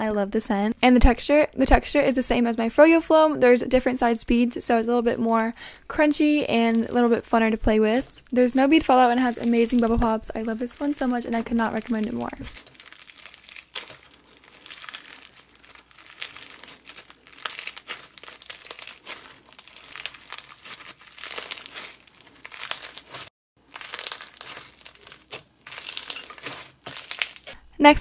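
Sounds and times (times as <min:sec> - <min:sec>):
slime crunching and crackling: 0:03.8 - 0:27.7.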